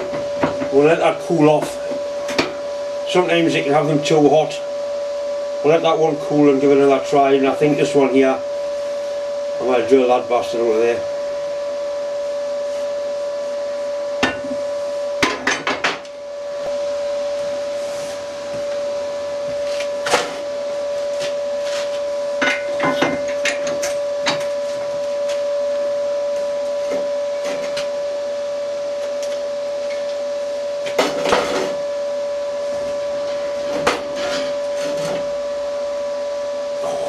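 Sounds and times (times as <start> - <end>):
machine humming: 0.0 - 37.0.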